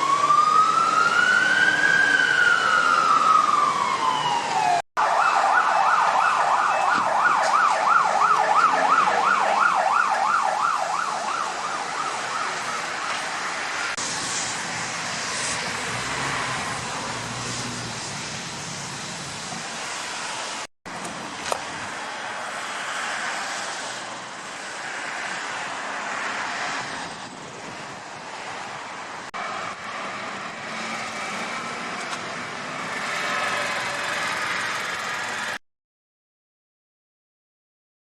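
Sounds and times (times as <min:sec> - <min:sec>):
fire engine driving by: 0:00.0 - 0:35.6.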